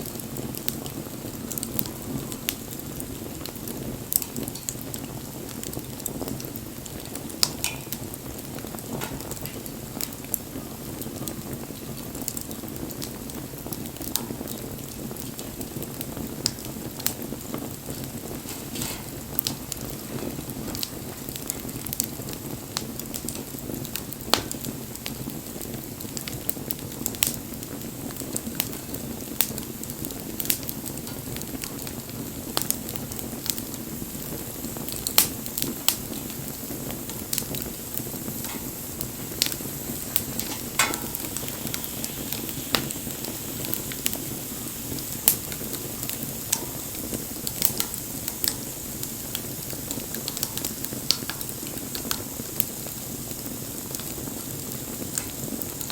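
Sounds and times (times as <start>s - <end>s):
bonfire flames rushing: 0.0s - 55.9s
burning wood crackling: 0.0s - 55.9s.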